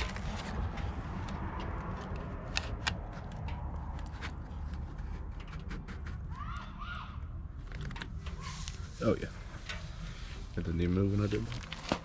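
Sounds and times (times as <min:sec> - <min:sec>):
faint clicks and rustles: 0:00.0 - 0:06.7, 0:07.5 - 0:12.0.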